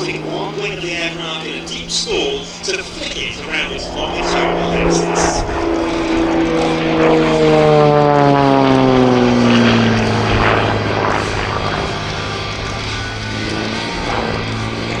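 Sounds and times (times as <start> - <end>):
small plane engine and propeller: 0.0 - 15.0.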